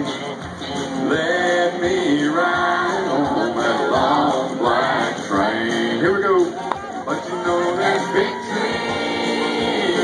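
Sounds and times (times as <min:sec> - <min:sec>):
live country band with singing: 0:00.0 - 0:10.0.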